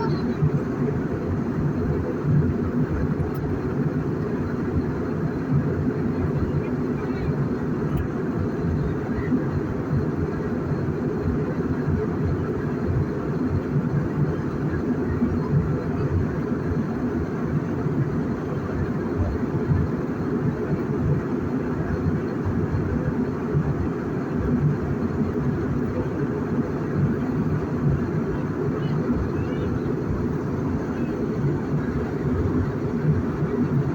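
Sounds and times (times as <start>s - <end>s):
airliner cabin rumble: 0.0s - 33.9s.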